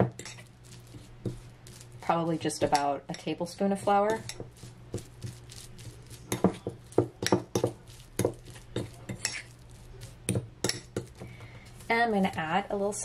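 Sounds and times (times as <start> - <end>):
fork scraping in a bowl: 0.1 - 12.7.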